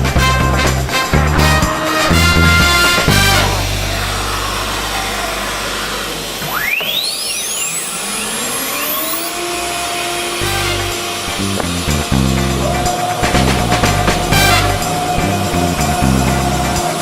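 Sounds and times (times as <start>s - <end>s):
spindle whine rising in pitch: 1.3s - 17.0s
machine hissing: 3.0s - 17.0s.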